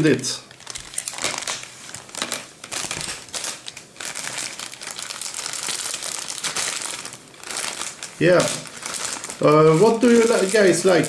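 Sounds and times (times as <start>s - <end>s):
packaging crinkling and rustling: 0.5s - 11.0s.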